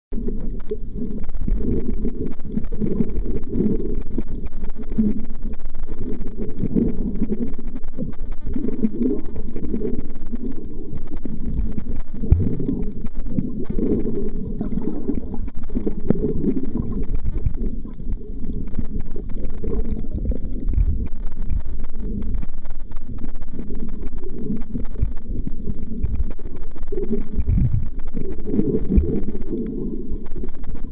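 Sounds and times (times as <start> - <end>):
underwater rumble of moving water: 0.1 - 30.9.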